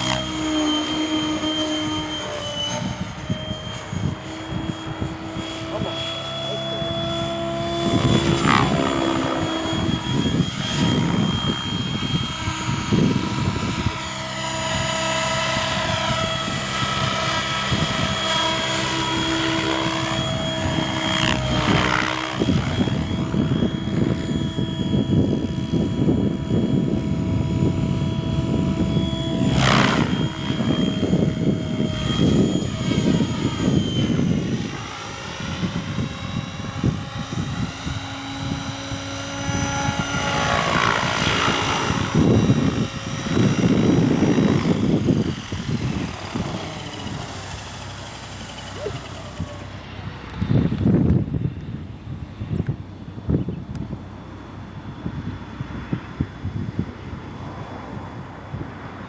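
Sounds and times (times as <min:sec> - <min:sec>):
model helicopter whine: 0:00.0 - 0:59.0.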